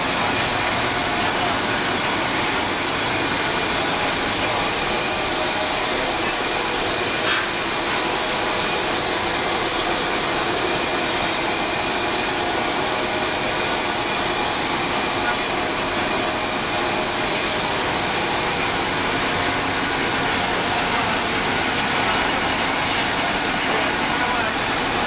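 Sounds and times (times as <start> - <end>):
steamer hissing and humming: 0.0 - 25.0.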